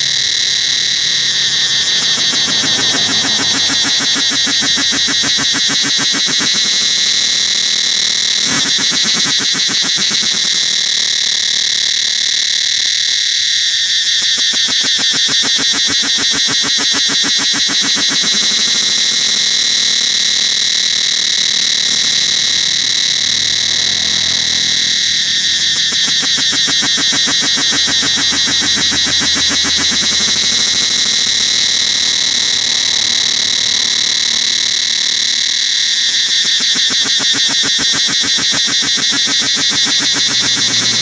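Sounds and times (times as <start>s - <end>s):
cicadas buzzing: 0.0s - 41.0s.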